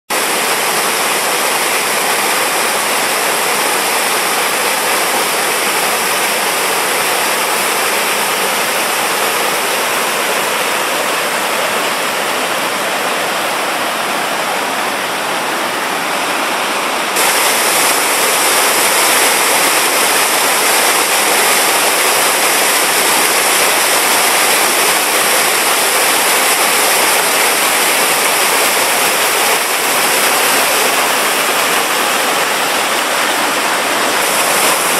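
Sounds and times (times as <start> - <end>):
waterfall rushing over rocks: 0.1 - 34.9.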